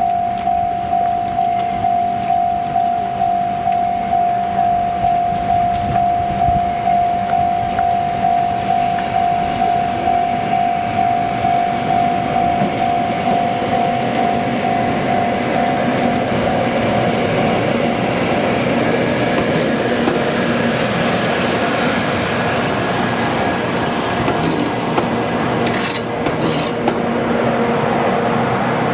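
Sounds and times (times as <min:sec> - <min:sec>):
level crossing bell clanging: 0:00.0 - 0:21.1, 0:22.1 - 0:28.3.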